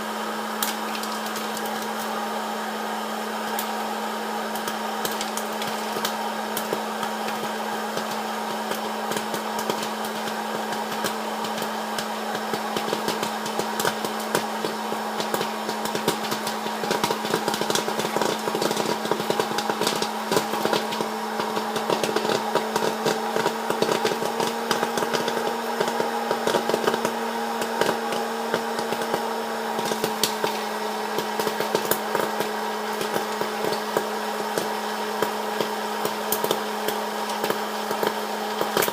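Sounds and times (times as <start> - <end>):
popcorn popper fan humming: 0.0 - 38.9
popcorn kernels popping: 0.5 - 2.4, 3.0 - 38.9.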